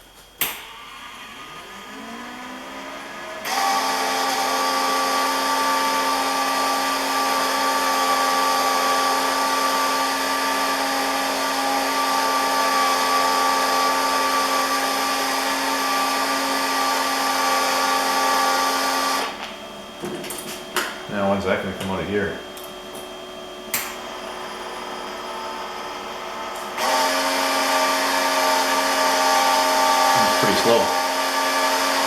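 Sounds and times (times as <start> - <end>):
wire-feed motor whine: 0.1 - 32.0.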